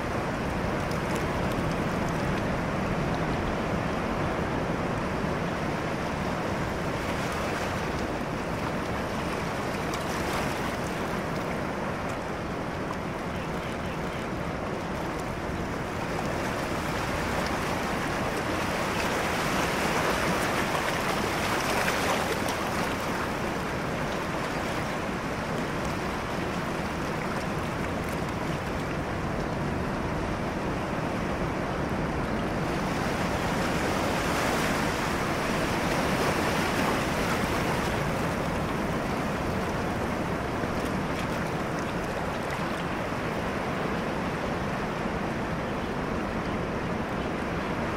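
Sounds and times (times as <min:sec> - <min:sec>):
surf washing over rocks: 0:00.0 - 0:47.9.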